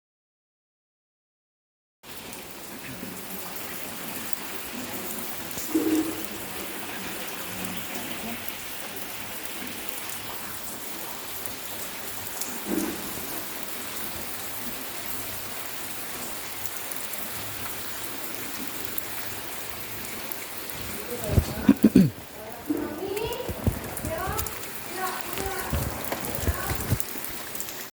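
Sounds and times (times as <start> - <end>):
rain pattering on surfaces: 2.0 - 27.9.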